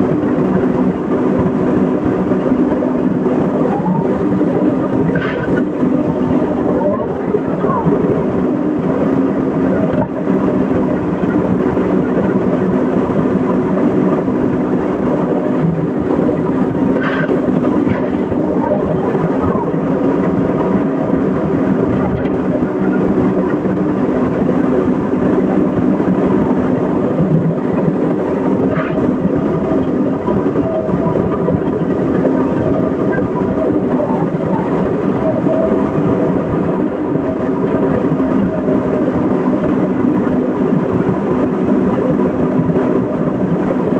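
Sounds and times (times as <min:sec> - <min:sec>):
excavator engine and hydraulics: 0:00.0 - 0:43.9.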